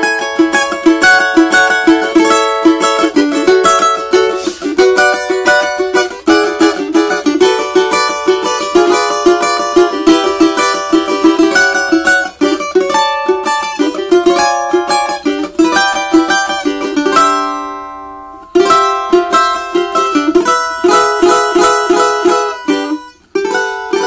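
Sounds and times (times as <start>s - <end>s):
cavaquinho strummed chords: 0.0s - 24.0s.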